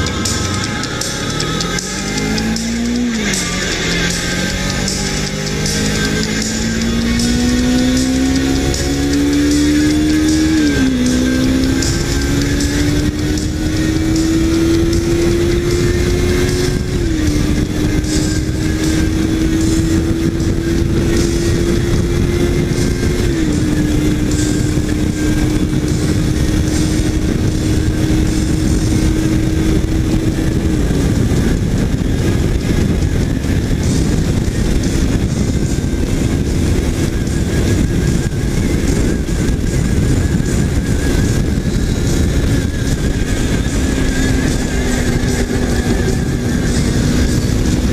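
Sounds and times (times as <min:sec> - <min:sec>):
heavy wind rush: 0:00.0 - 0:47.9
motorcycle engine shifting up: 0:00.0 - 0:47.9.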